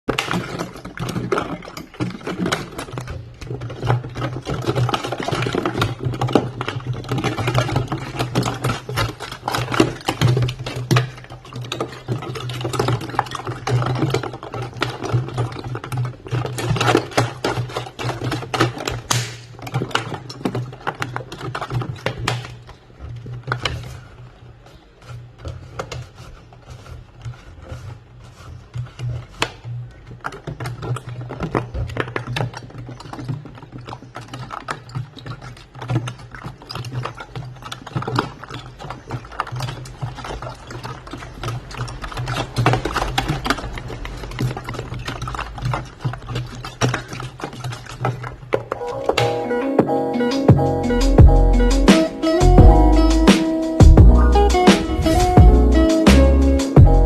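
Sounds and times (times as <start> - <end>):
ice cubes rattling in plastic bottle: 0.0 - 57.0.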